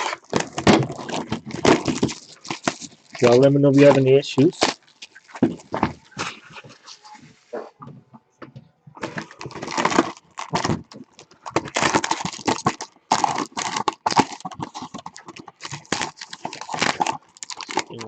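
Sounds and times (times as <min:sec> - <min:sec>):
packaging rustling and crinkling: 0:00.0 - 0:07.2, 0:09.0 - 0:18.0.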